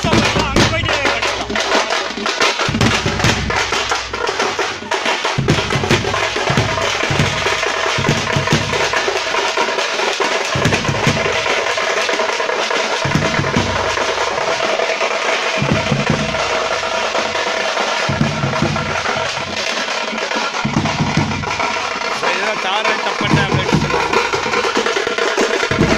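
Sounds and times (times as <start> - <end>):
frame drums beaten fast: 0.0 - 25.9.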